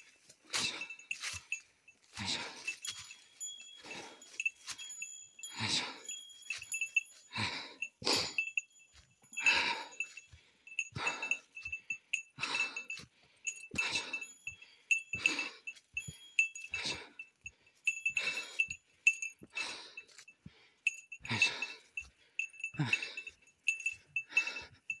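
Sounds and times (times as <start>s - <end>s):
person breathing heavily: 0.0s - 25.0s
small bell jingling: 0.0s - 25.0s.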